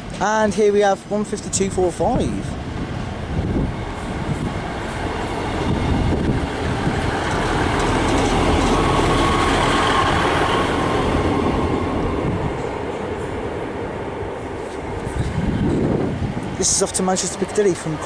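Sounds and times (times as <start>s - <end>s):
diesel train rumbling on track: 0.0s - 18.0s.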